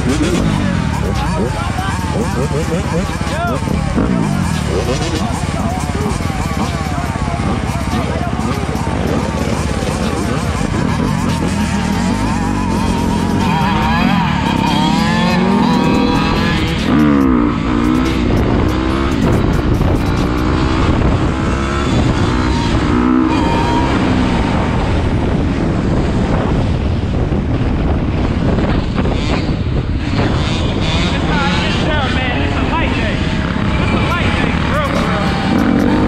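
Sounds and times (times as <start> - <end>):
dirt bike engines revving: 0.0 - 36.0
rumble of riding: 0.0 - 36.0.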